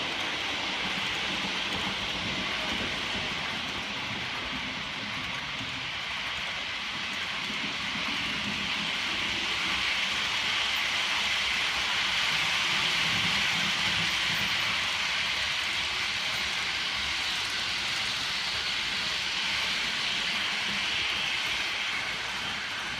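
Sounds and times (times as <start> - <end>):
freight train wheels on rail: 0.0 - 22.9.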